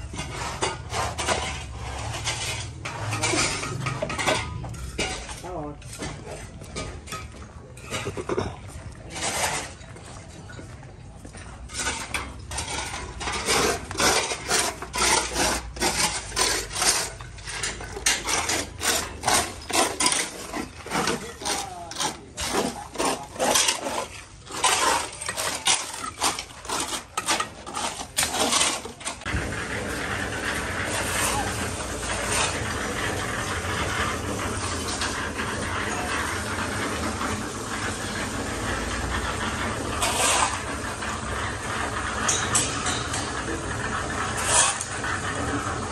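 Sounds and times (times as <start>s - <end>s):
scraping strokes: 0.0s - 7.2s, 9.0s - 9.9s, 11.6s - 45.9s.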